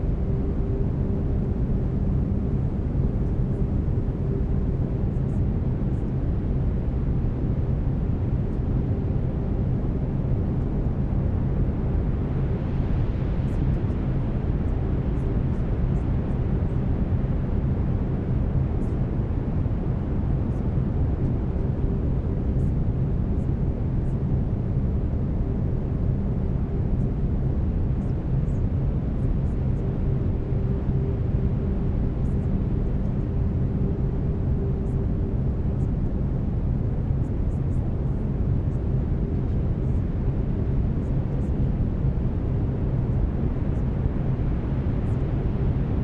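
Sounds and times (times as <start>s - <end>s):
faint steady tone: 0.0s - 46.0s.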